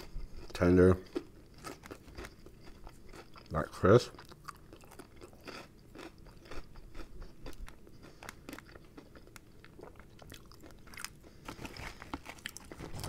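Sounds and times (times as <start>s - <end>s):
chewing fried chicken: 0.0s - 13.0s.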